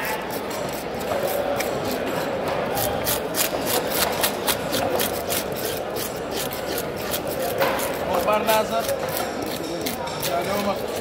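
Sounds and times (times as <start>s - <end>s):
scaler scraping fish scales: 0.0s - 11.0s.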